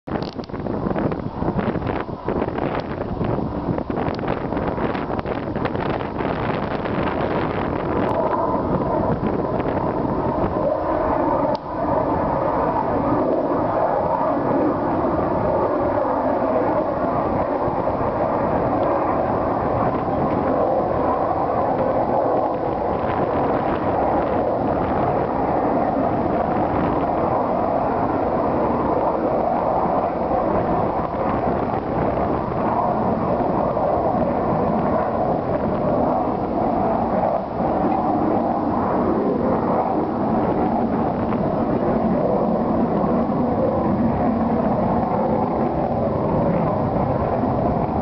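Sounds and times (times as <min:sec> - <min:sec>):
aircraft engine roar: 0:00.0 - 0:48.0.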